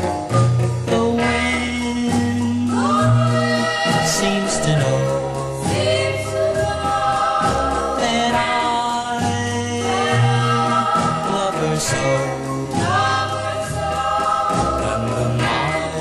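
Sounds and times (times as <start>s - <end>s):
bass line: 0.0s - 16.0s
backing choir singing: 0.9s - 16.0s.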